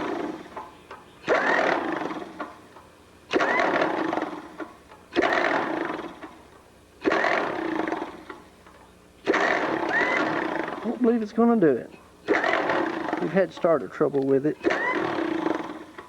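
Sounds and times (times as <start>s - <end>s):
starter cranking engine: 0.0s - 16.0s.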